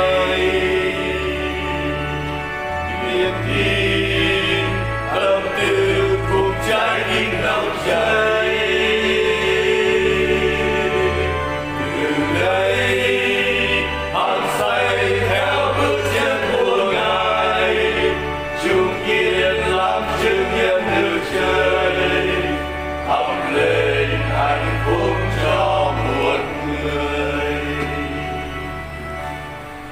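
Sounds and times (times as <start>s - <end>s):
hymn singing: 0.0s - 29.9s
instrumental accompaniment: 0.0s - 29.9s.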